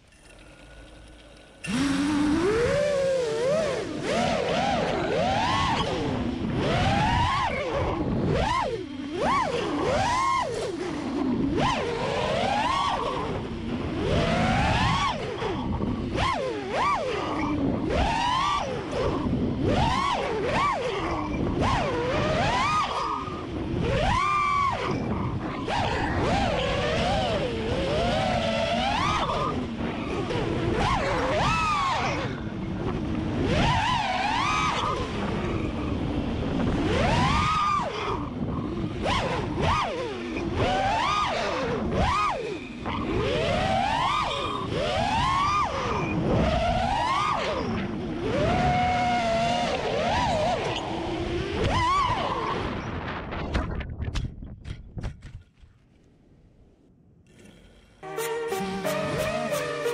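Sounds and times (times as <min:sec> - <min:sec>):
drone motors whining: 0:00.0 - 0:53.6, 0:57.3 - 0:59.9.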